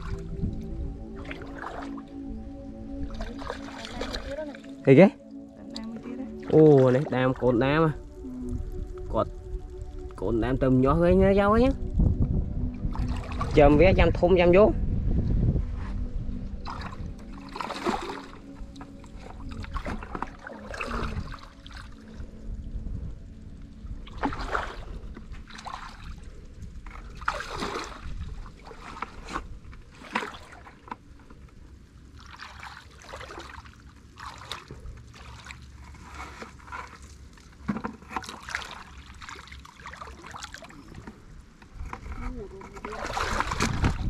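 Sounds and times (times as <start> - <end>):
person wading through muddy water: 0.0 - 10.1, 12.8 - 13.8, 16.3 - 22.4, 24.0 - 44.0.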